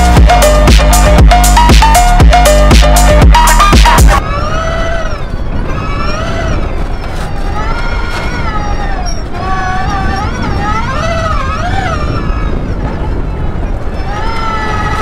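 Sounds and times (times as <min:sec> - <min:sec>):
wind rumble: 0:00.0 - 0:15.0.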